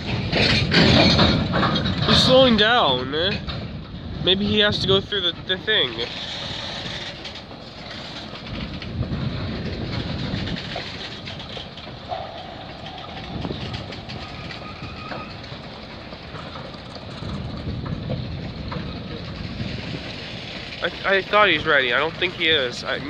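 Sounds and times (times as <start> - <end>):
freight train rumbling: 0.0 - 23.0
wheels clicking over rail joints: 0.0 - 23.0.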